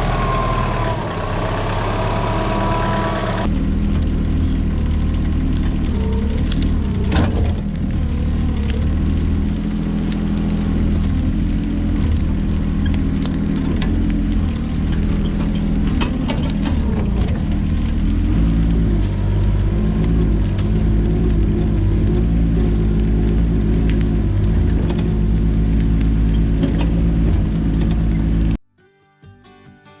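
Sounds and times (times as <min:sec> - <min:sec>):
engine running steadily: 0:00.0 - 0:28.6.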